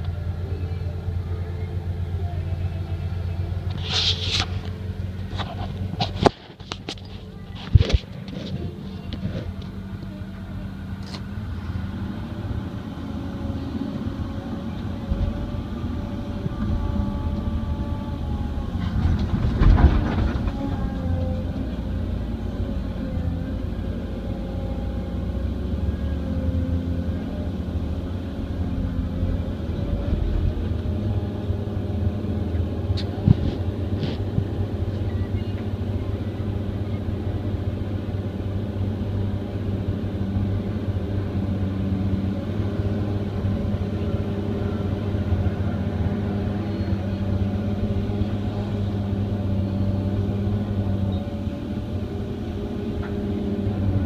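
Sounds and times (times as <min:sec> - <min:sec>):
excavator diesel engine working: 0:00.0 - 0:54.0.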